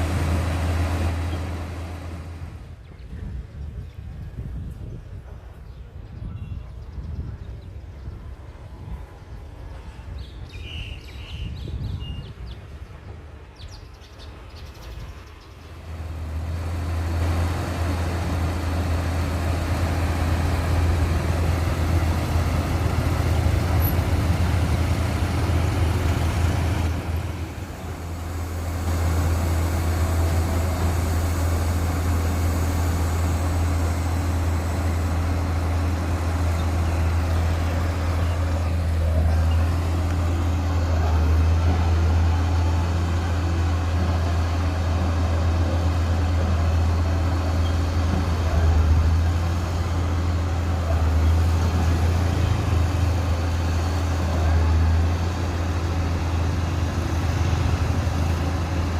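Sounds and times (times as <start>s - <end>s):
diesel engine low drone: 0.0s - 6.1s, 11.2s - 58.9s.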